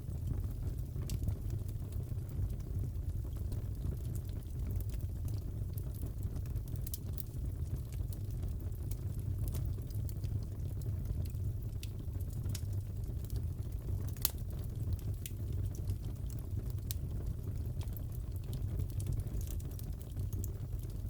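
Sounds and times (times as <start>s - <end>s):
fire snaps and pops: 0.0s - 21.0s
fireplace crackling: 2.5s - 21.0s.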